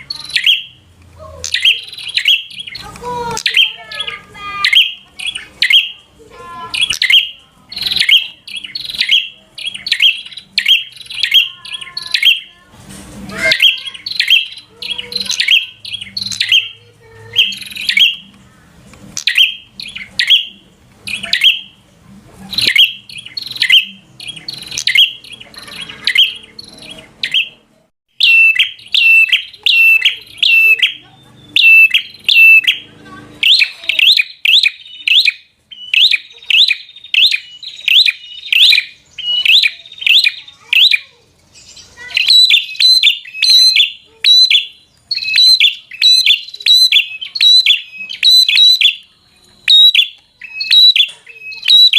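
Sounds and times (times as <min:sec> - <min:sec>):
bird calling in sharp chirps: 0:00.0 - 0:12.6, 0:13.3 - 0:18.5, 0:19.1 - 0:21.8, 0:22.4 - 0:51.9.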